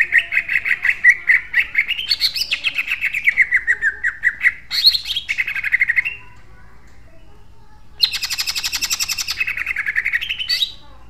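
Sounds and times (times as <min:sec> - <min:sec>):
bird singing rapid notes: 0:00.0 - 0:06.4, 0:08.0 - 0:10.9.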